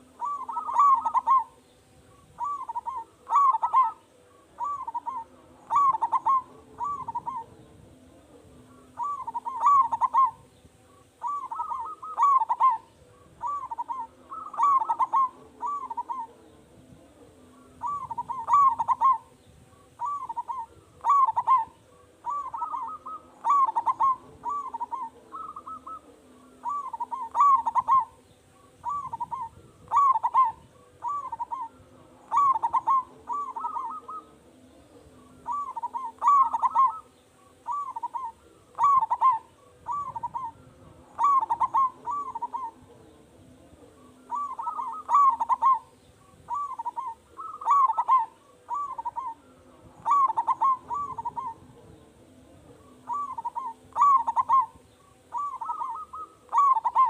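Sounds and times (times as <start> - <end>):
dove cooing song: 0.0 - 57.0.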